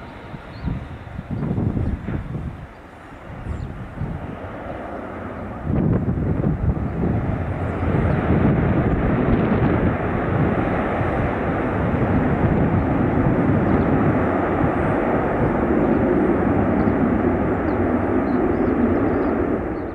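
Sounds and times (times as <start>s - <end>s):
jet engines in reverse thrust: 0.0s - 19.9s.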